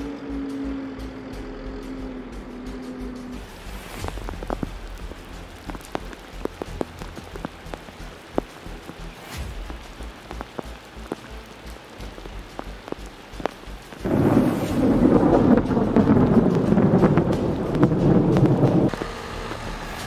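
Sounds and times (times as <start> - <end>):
heavy rain on water: 0.0 - 20.0
loud rumbling noise: 0.0 - 20.0.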